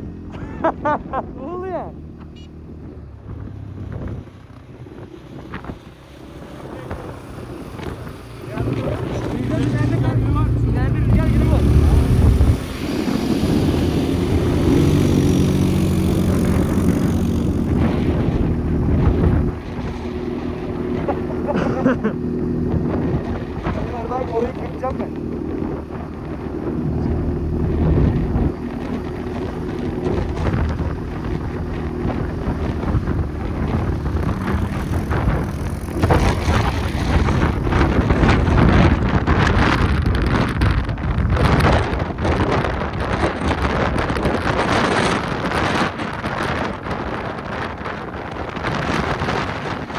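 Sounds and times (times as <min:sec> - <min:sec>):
atv engine running: 0:00.0 - 0:49.9
wind buffeting microphone: 0:00.0 - 0:49.9.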